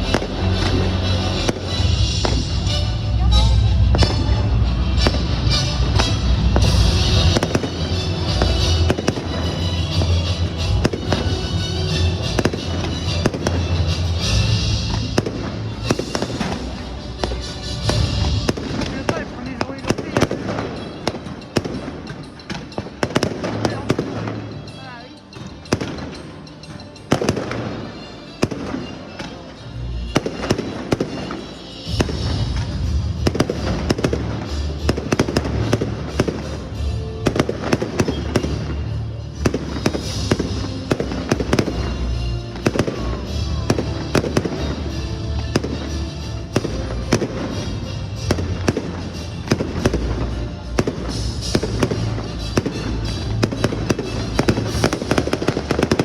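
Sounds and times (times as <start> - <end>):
fireworks bangs and crackling: 0.0 - 56.0
music playing: 0.0 - 56.0.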